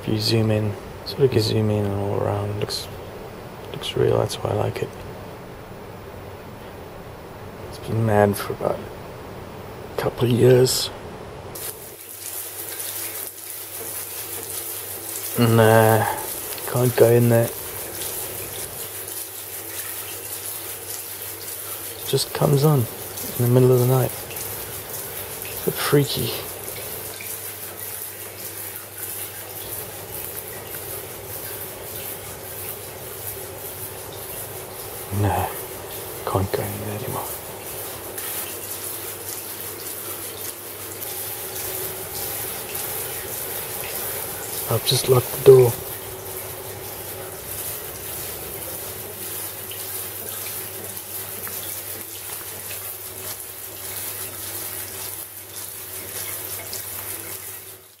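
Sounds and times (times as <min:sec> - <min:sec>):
low constant hum: 0:00.0 - 0:58.0
shower water hissing: 0:11.5 - 0:58.0.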